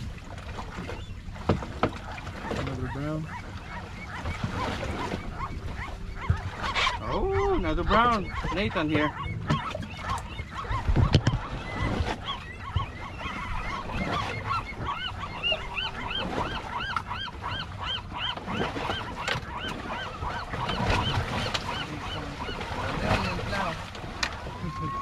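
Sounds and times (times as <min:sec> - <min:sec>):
water noise: 0:00.0 - 0:25.0
wind: 0:00.0 - 0:25.0
gulls calling: 0:00.1 - 0:25.0.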